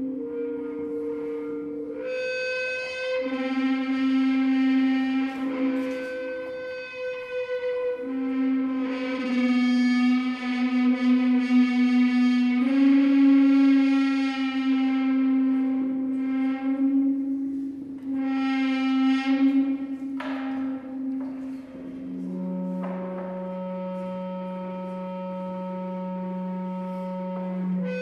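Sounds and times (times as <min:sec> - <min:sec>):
horn-like drone from a drum: 0:00.0 - 0:28.0.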